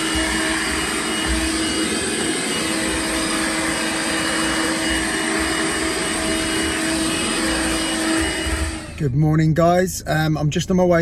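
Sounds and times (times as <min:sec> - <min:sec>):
handheld vacuum cleaner running: 0:00.0 - 0:09.2.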